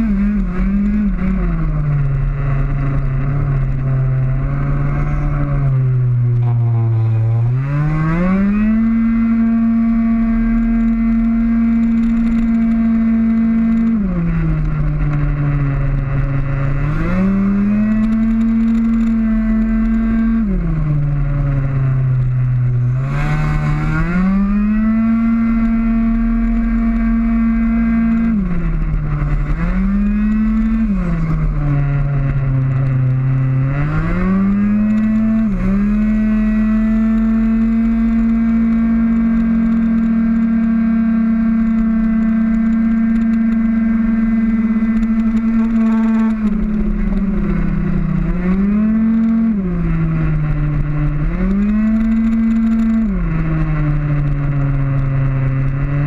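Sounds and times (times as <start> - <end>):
scooter engine at high revs: 0.0 - 56.0.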